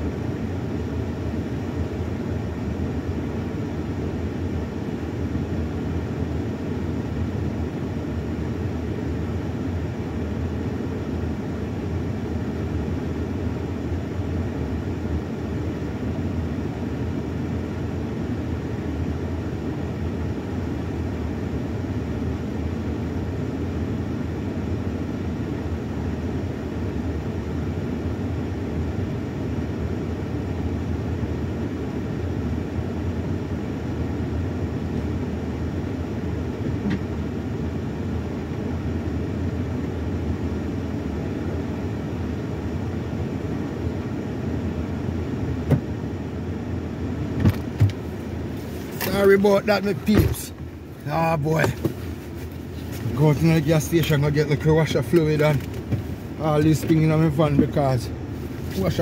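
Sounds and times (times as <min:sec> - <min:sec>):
van engine idling: 0:00.0 - 0:59.0.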